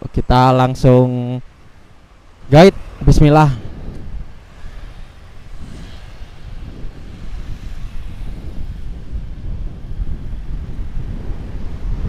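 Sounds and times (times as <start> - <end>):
road and engine noise: 0.0 - 12.0
wind rumbling on microphone: 0.0 - 12.0.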